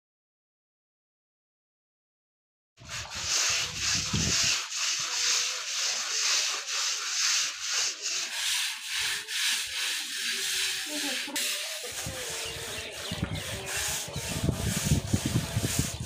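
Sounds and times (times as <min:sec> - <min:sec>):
brushes scrubbing wet cord: 0:02.8 - 0:16.0.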